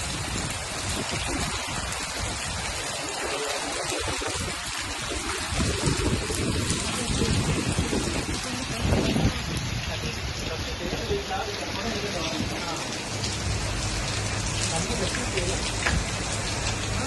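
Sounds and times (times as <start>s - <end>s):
heavy rain: 0.0s - 17.0s
running floodwater: 0.0s - 17.0s.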